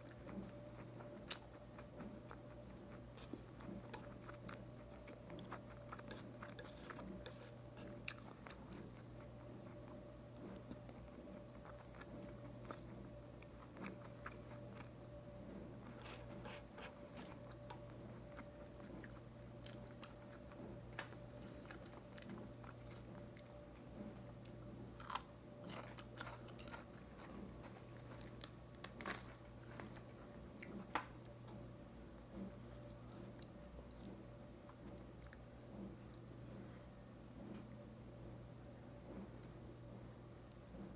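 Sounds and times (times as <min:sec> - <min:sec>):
chewing and crunching: 0:00.0 - 0:31.6, 0:32.3 - 0:36.2
low steady hum: 0:00.0 - 0:40.9.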